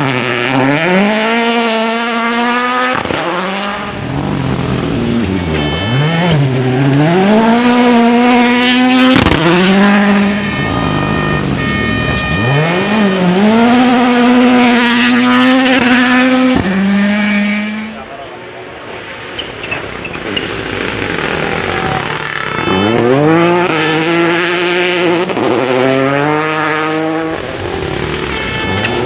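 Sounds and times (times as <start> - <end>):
rally car engines revving high: 0.0 - 29.0.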